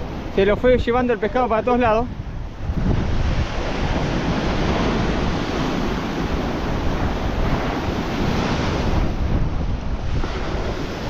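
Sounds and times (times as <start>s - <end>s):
sea surf washing: 0.0s - 11.0s
wind buffeting microphone: 0.0s - 11.0s.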